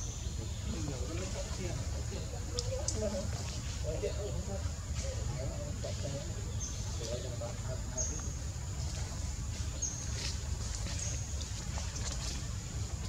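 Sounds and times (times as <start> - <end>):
faint murmur: 0.0 - 13.0.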